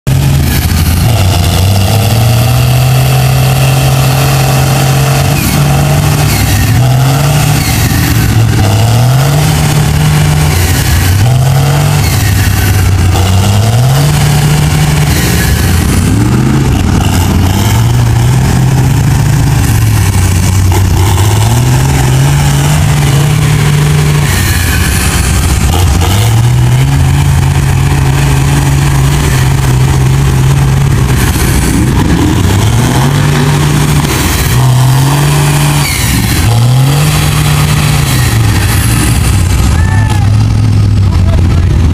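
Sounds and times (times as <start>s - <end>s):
truck engine revving hard: 0.0s - 41.9s.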